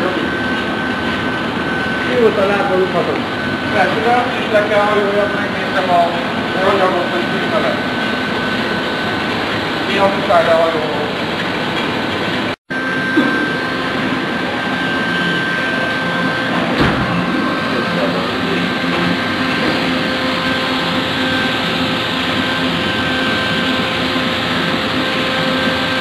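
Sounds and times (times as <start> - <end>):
hot-air welding machine hiss and whine: 0.0 - 26.0.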